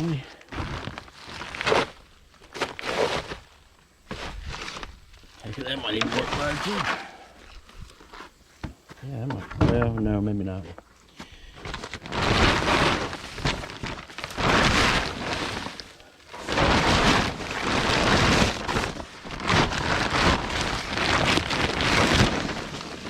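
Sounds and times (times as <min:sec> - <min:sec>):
tarp rustling and crinkling: 0:00.0 - 0:08.5, 0:10.9 - 0:23.0.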